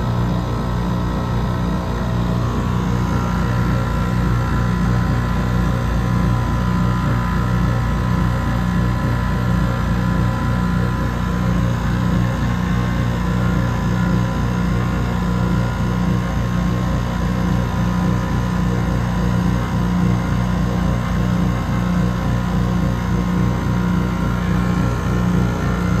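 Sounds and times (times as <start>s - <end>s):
air conditioner compressor humming: 0.0s - 26.0s.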